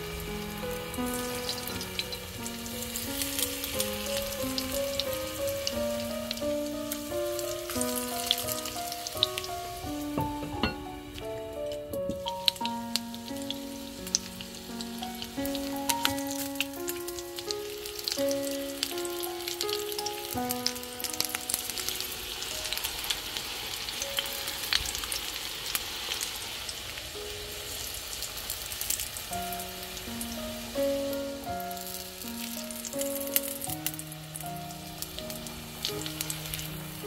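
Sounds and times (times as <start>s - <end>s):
simple background melody: 0.0s - 24.9s, 29.3s - 37.0s
oil sizzling and popping: 0.0s - 37.0s.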